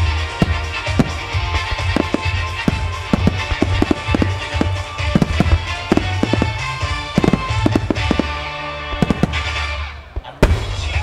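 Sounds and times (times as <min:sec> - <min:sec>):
fireworks bursting: 0:00.0 - 0:11.0
music with steady bass: 0:00.0 - 0:11.0.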